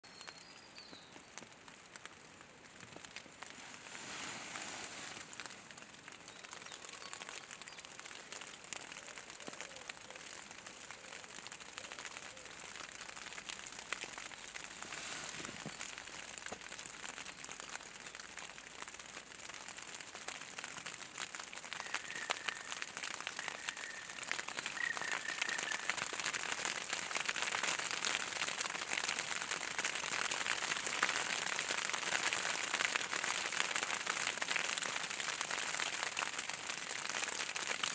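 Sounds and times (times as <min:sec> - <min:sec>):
graupel falling on water and reeds: 0:01.4 - 0:37.9.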